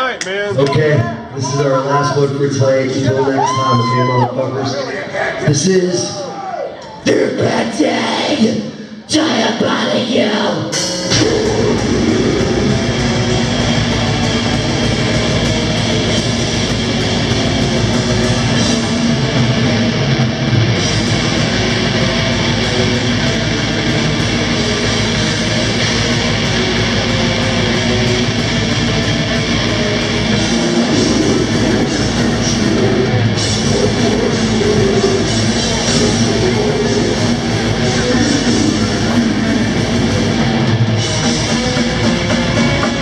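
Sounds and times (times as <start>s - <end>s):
death metal band playing live: 7.3s - 43.0s.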